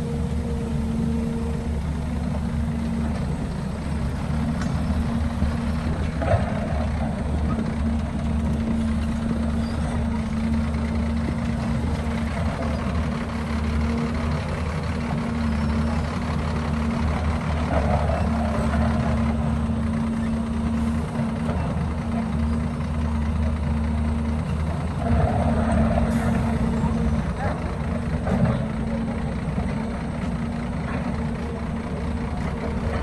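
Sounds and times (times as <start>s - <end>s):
heavy equipment engine running: 0.0s - 33.0s.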